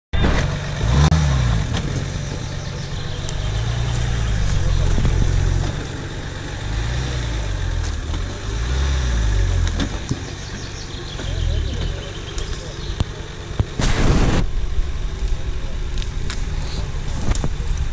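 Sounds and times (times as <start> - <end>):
off-road vehicle engine at low revs: 0.1 - 17.9.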